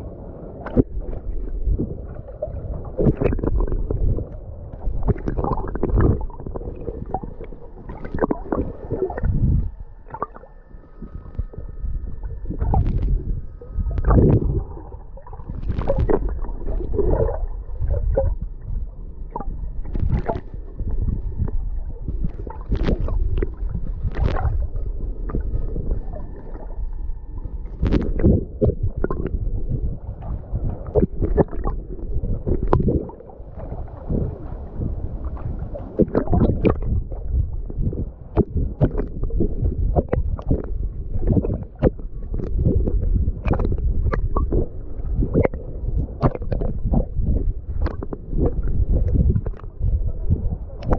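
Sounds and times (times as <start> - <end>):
sea water sloshing and splashing: 0.0 - 50.9.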